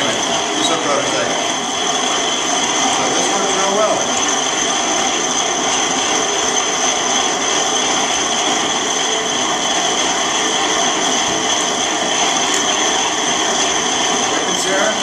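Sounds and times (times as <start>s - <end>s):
grain mill grinding whir: 0.0s - 15.0s.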